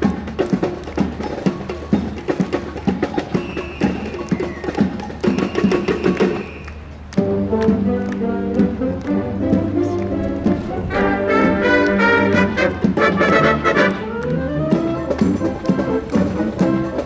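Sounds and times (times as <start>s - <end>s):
marching drum line cadence: 0.0s - 17.0s.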